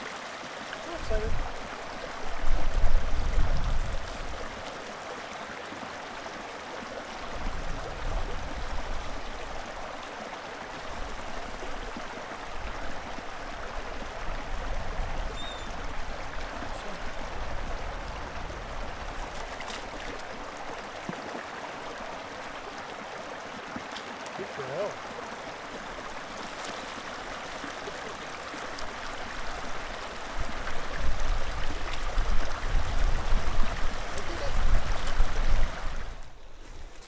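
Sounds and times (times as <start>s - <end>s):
brook running: 0.0s - 37.0s.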